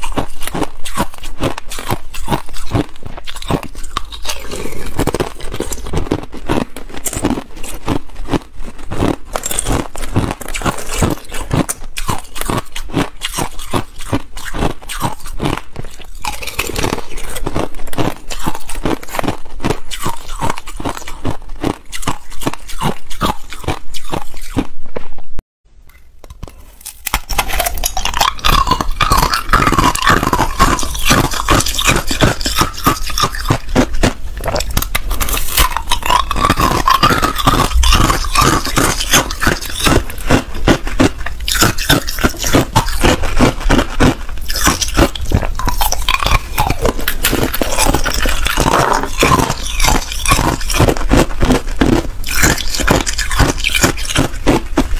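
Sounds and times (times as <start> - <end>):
crunching and chewing ice: 0.0 - 25.1, 25.9 - 54.9.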